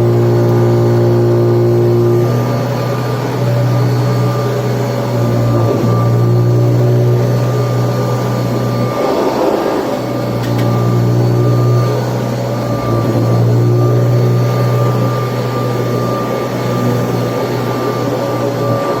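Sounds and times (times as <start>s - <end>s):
vacuum cleaner motor hum: 0.0s - 19.0s.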